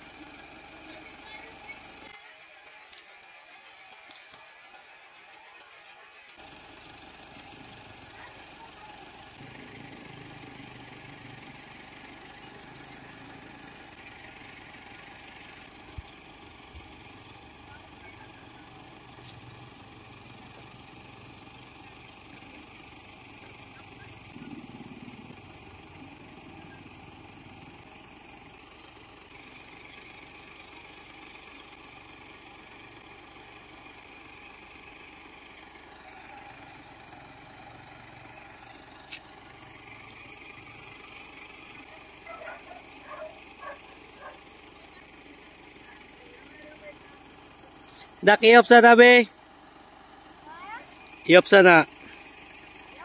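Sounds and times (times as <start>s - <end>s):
insects chirping: 0.0s - 53.0s.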